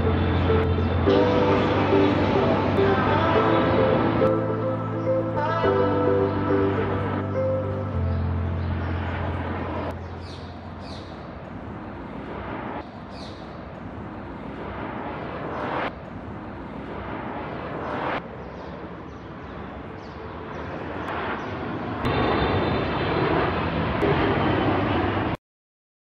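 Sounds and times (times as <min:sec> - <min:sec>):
jet engine roar: 0:00.0 - 0:25.4.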